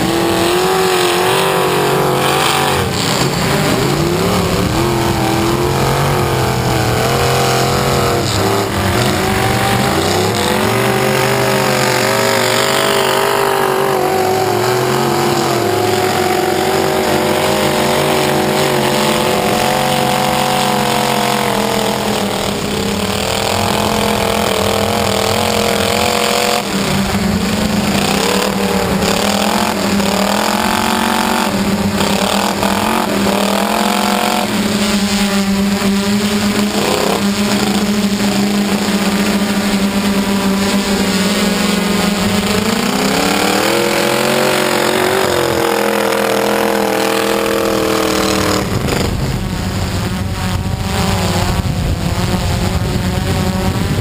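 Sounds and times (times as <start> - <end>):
drone motors humming: 0.0 - 54.0
truck engine revving: 0.0 - 54.0.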